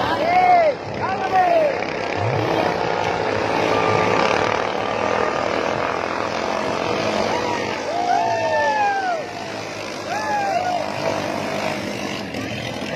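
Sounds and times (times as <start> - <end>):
boat engines running at speed: 0.0 - 12.9.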